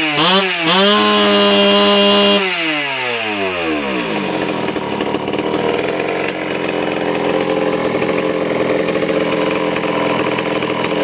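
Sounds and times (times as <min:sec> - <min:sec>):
chainsaw revving then idling: 0:00.0 - 0:11.0.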